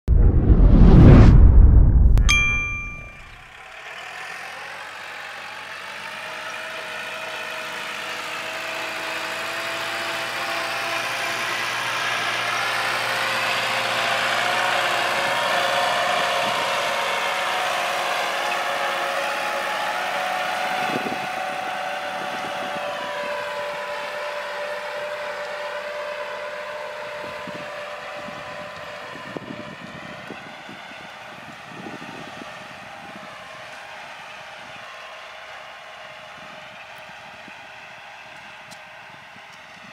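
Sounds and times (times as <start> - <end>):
tractor diesel engine running: 3.6 - 39.8.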